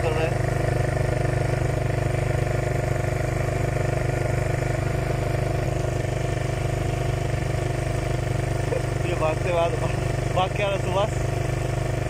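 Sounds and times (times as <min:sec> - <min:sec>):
quad bike engine idling: 0:00.0 - 0:12.0.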